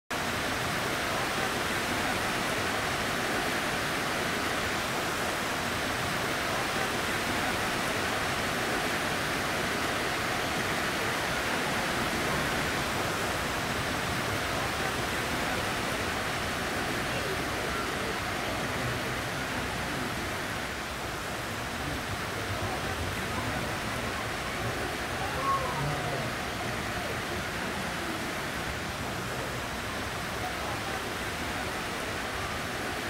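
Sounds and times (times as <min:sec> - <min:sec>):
water rushing: 0:00.1 - 0:33.0.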